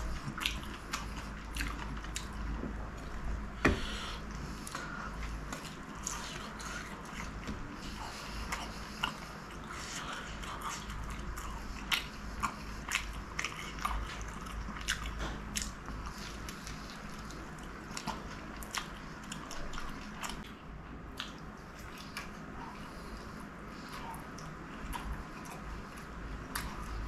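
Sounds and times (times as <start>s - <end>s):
quiet chewing: 0.0s - 27.0s.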